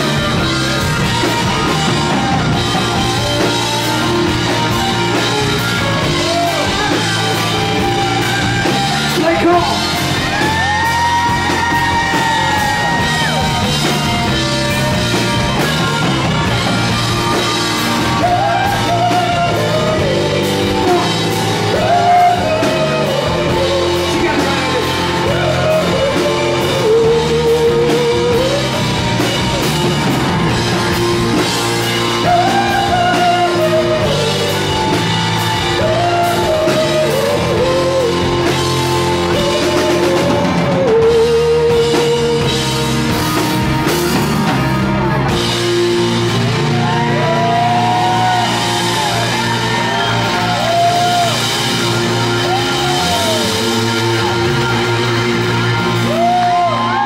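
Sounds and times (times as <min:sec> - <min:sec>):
electric guitar lead melody bending: 0:00.0 - 0:57.0
live rock band playing: 0:00.0 - 0:57.0.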